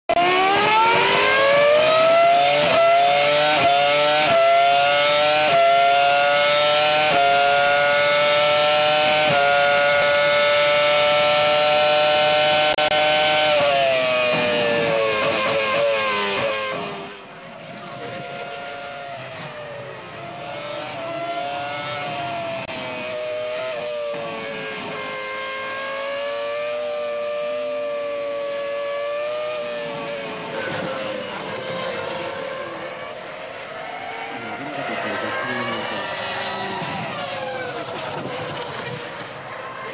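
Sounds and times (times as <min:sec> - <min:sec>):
racing car engine accelerating: 0:00.1 - 0:39.9.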